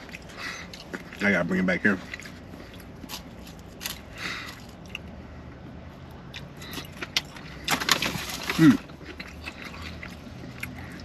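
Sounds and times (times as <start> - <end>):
chewing and mouth sounds: 0.0 - 11.0.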